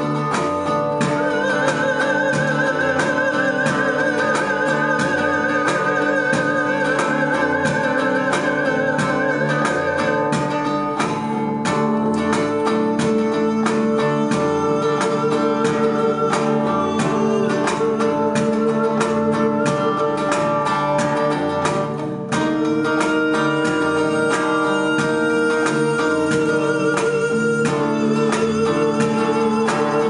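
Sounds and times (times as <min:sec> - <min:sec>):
guitar picked and strummed: 0:00.0 - 0:30.0
live band music: 0:00.0 - 0:30.0.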